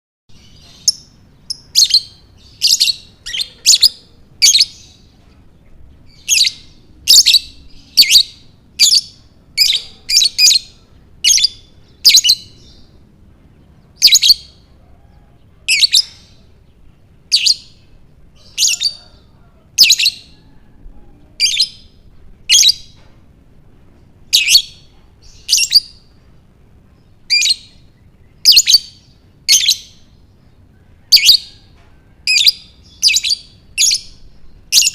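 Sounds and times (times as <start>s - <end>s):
bird chirping: 0.3s - 23.2s, 24.3s - 31.7s, 32.3s - 34.9s.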